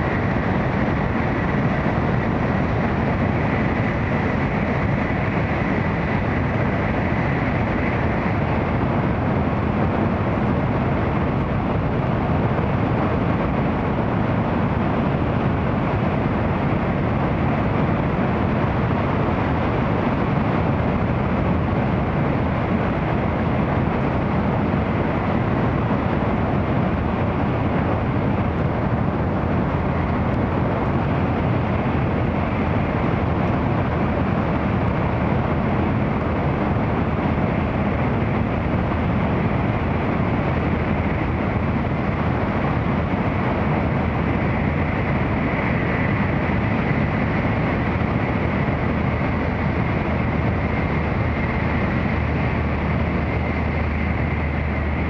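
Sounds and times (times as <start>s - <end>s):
train running rumble from inside cabin: 0.0s - 55.0s.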